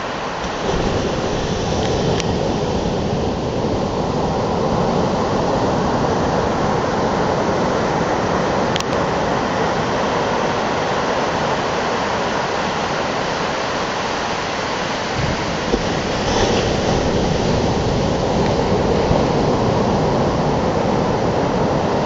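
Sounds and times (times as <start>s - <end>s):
waves breaking and washing: 0.0s - 22.0s.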